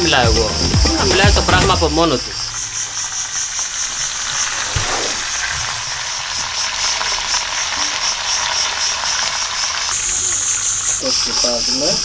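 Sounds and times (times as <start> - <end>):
insects chirring: 0.0 - 12.0
meat and potatoes sizzling in a pot: 0.0 - 12.0.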